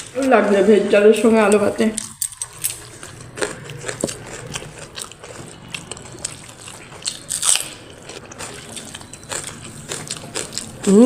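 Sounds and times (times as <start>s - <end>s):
person chewing food: 1.5s - 11.0s.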